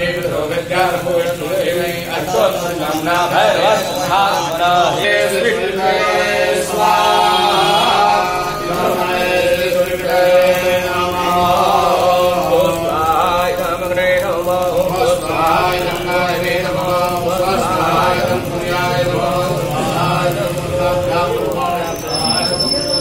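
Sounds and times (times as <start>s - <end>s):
priests chanting: 0.0s - 23.0s.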